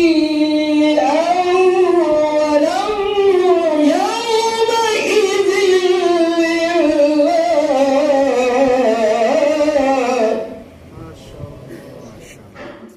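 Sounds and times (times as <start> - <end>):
man reciting melodically: 0.0 - 12.6.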